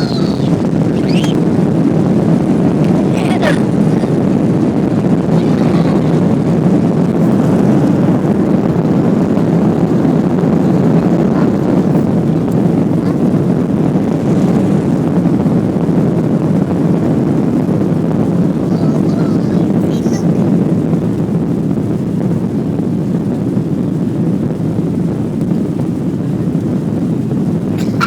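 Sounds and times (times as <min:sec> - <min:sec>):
airplane taking off: 0:00.0 - 0:24.0.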